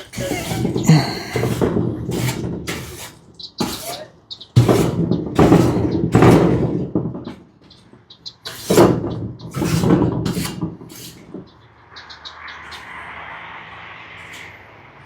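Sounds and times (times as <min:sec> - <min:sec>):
brush sweeping metal roofing: 0:00.0 - 0:15.0.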